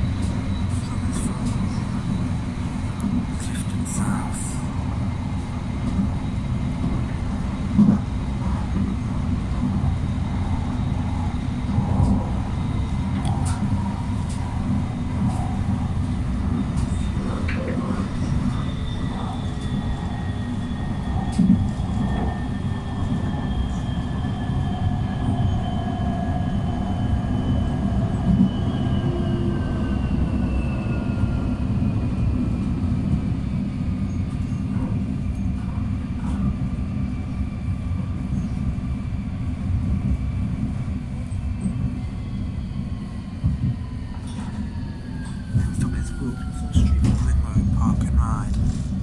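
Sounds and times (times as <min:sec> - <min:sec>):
tram rumbling: 0:00.0 - 0:49.0.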